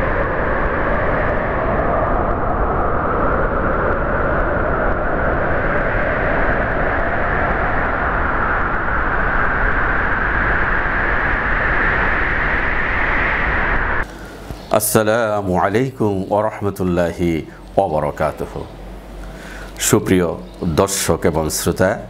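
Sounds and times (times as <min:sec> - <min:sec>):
gale force wind: 0:00.0 - 0:22.0.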